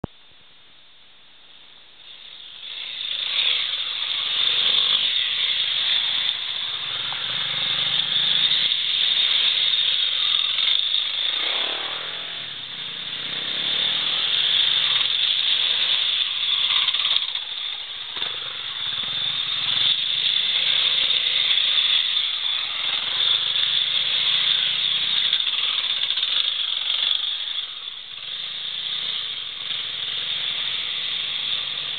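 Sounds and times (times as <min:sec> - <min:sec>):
motorcycle engines under load: 0:02.0 - 0:31.9.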